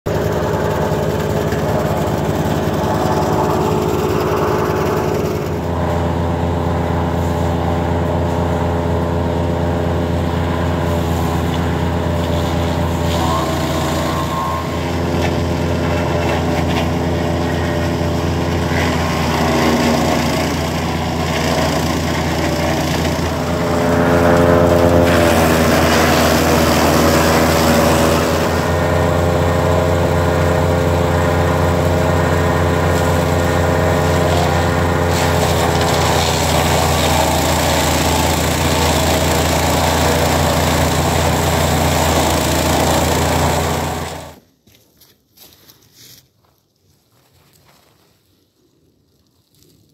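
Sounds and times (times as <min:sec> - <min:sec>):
wood chipper engine running: 0:00.0 - 0:44.5
branches shredding: 0:00.1 - 0:44.4.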